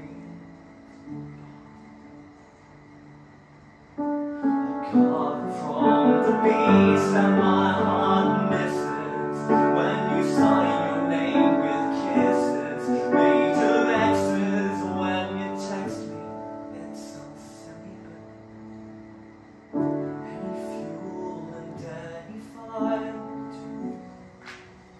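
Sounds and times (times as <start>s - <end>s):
grand piano chords and melody: 0.0s - 24.9s.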